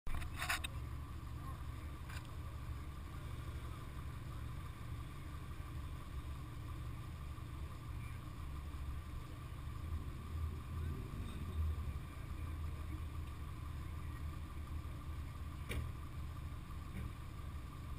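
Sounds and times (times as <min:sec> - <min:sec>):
car engine idling: 0:00.1 - 0:17.9
faint steady whine: 0:00.1 - 0:17.9.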